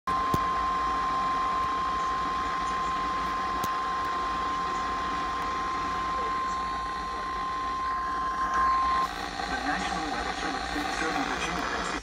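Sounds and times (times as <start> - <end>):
steady warning alert tone: 1.6 - 12.0.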